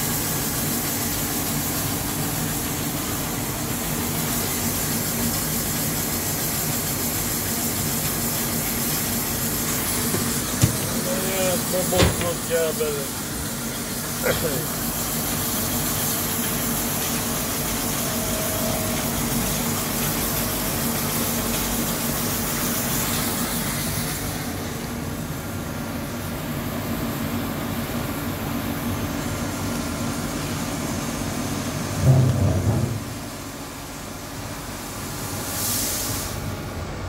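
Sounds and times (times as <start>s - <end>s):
coolant spraying hiss: 0.0s - 36.7s.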